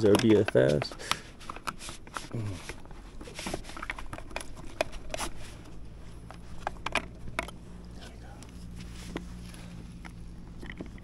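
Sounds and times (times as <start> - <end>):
fishing gear clicks and knocks: 0.0 - 11.0
low steady hum: 0.0 - 11.0.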